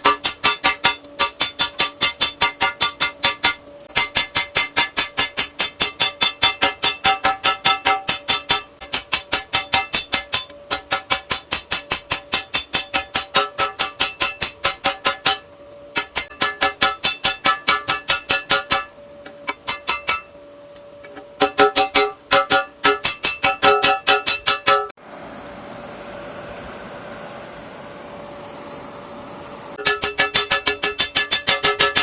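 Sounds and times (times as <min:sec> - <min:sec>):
hammer blows on steel and anvil: 0:00.0 - 0:20.4, 0:21.4 - 0:24.9, 0:29.8 - 0:32.0.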